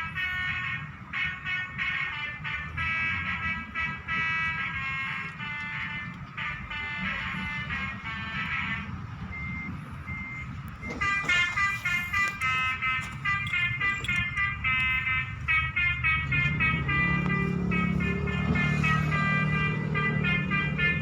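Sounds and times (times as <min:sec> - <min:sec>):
musical bus horn tune: 0:00.0 - 0:21.0.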